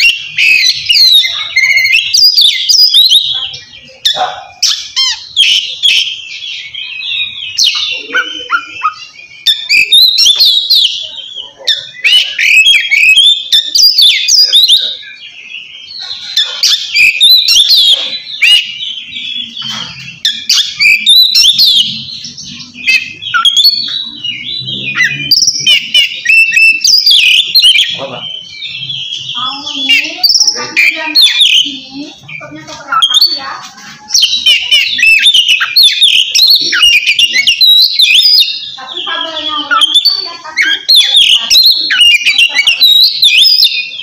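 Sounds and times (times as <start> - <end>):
magpie-robin singing: 0.0 - 44.0.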